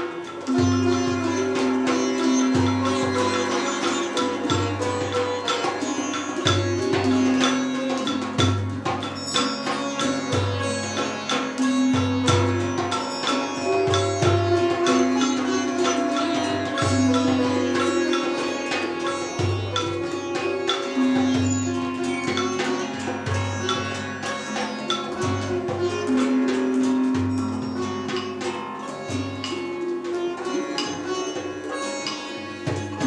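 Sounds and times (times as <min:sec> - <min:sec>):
hand drum percussion: 0:00.0 - 0:33.0
sitar plucked runs: 0:00.5 - 0:33.0.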